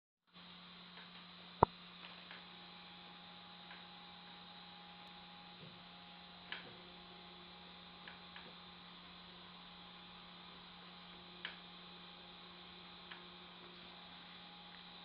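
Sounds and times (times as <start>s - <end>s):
steady electrical hum: 0.3s - 15.0s.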